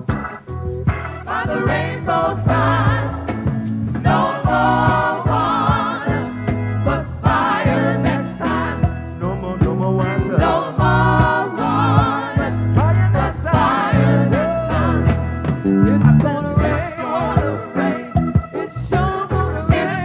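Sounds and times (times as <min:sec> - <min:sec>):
gospel band playing live: 0:00.0 - 0:20.0
people singing: 0:01.2 - 0:20.0.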